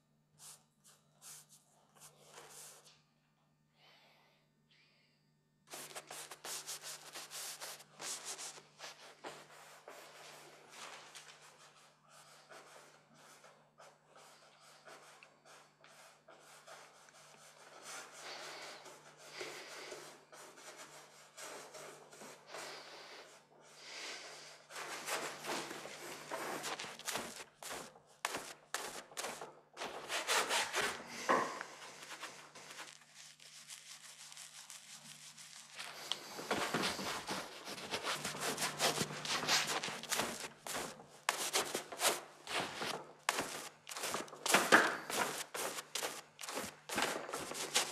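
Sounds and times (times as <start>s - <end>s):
faint steady hum: 0.0s - 47.9s
paintbrush scrubbing canvas: 0.4s - 3.0s, 5.7s - 47.9s.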